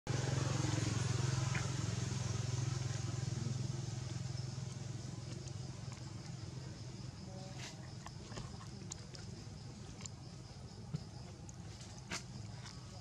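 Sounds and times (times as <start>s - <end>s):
pulsing motor hum: 0.1s - 13.0s.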